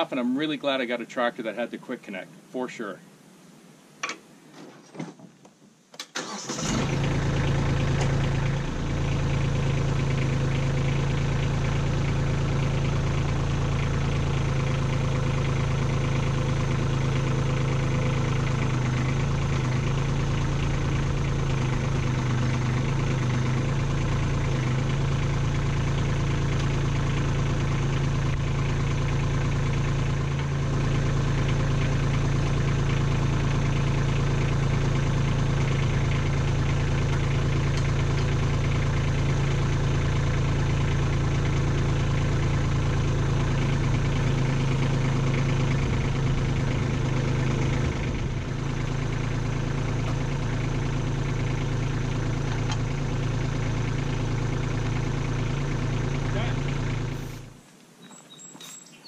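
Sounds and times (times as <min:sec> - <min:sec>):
diesel tractor engine starting: 0:06.0 - 0:57.6
diesel engine idling: 0:06.2 - 0:57.6.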